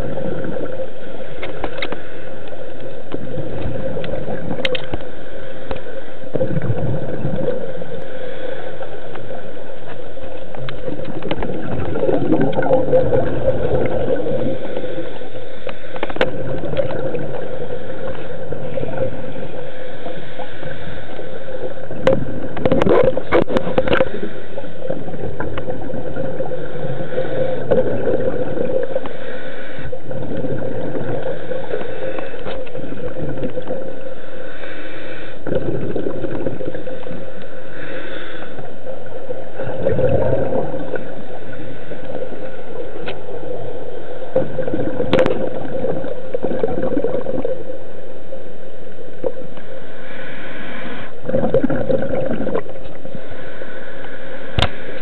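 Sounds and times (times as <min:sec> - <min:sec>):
diver's bubbles gurgling: 0:00.0 - 0:34.2, 0:35.4 - 0:37.7, 0:38.8 - 0:48.3, 0:50.9 - 0:53.2
muffled underwater hum: 0:00.0 - 0:55.0.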